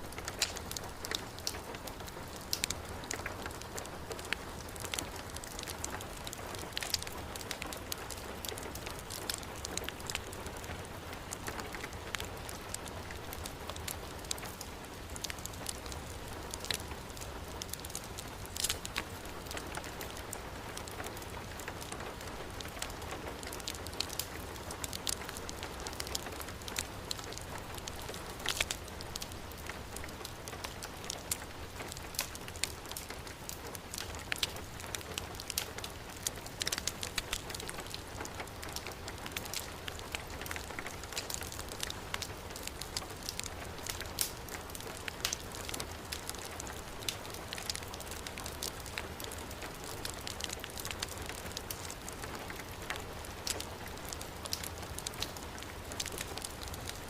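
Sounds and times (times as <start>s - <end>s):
heavy rain falling: 0.0s - 57.0s
wood fire crackling: 0.0s - 57.0s.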